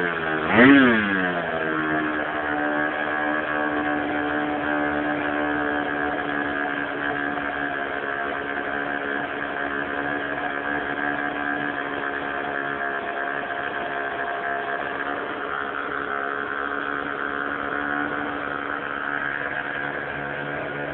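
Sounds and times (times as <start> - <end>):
model airplane engine buzzing: 0.0 - 20.9.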